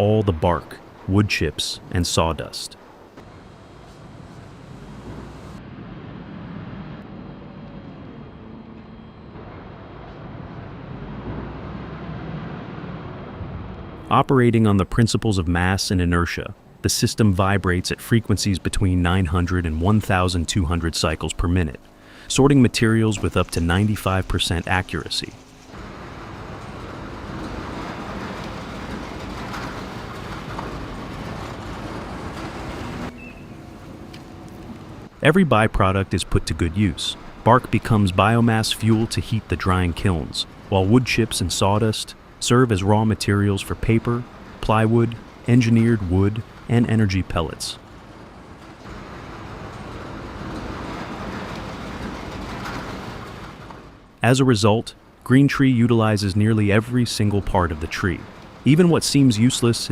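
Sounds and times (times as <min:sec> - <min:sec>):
machine hum: 0:00.0 - 0:59.9
vibrating conveyor rumbling: 0:00.0 - 0:59.9.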